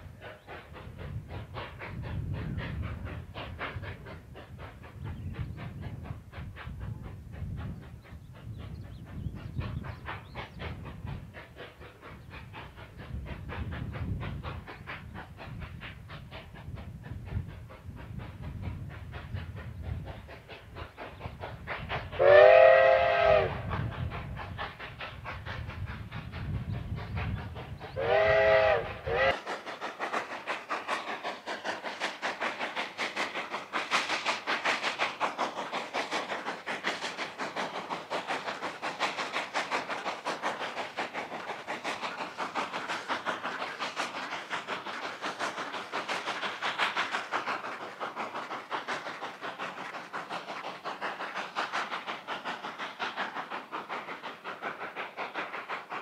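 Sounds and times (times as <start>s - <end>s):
steam locomotive exhaust chuffing: 0.0s - 56.0s.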